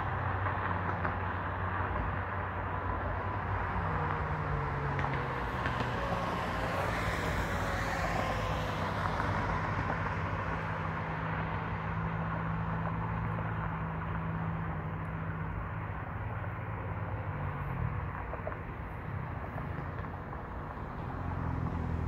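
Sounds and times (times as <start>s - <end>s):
vehicle passing by: 0.0s - 15.1s, 16.0s - 22.0s
low engine hum: 0.0s - 22.0s.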